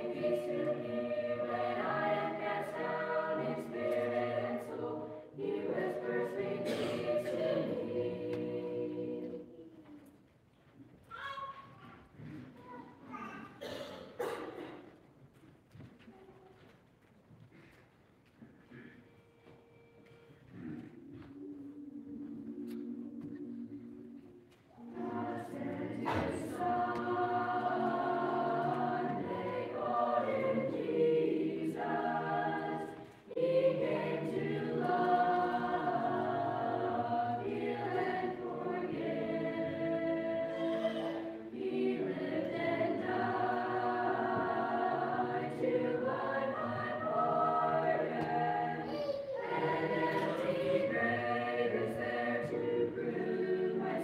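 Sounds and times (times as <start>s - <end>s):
children's choir singing unaccompanied: 0.0s - 10.4s, 13.6s - 15.0s, 18.7s - 54.0s.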